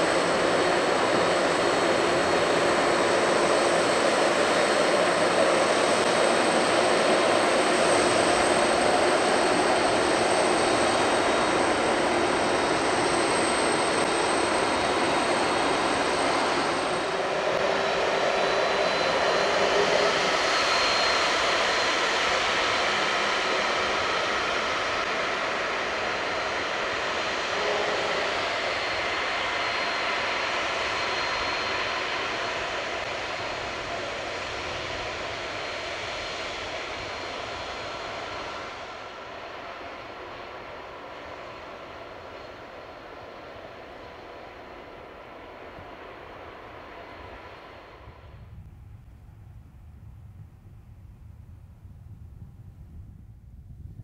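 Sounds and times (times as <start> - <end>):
jet engines rumbling with whine: 0.0 - 54.0.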